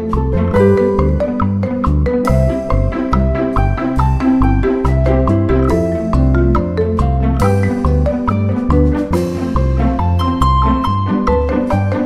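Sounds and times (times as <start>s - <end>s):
upbeat marimba music with bass beat: 0.0s - 12.0s.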